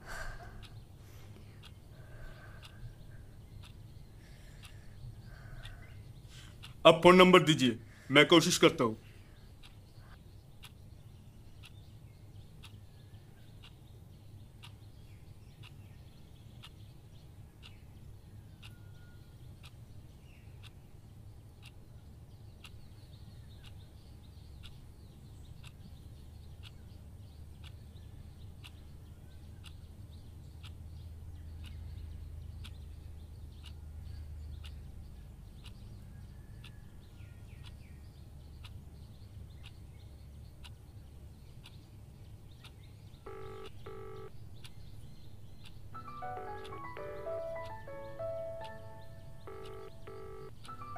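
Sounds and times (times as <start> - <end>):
faint regular ticking: 0.0 - 13.0, 13.6 - 18.8, 20.6 - 50.9
faint bird chirps: 0.1 - 6.8, 9.0 - 20.9, 21.6 - 50.9.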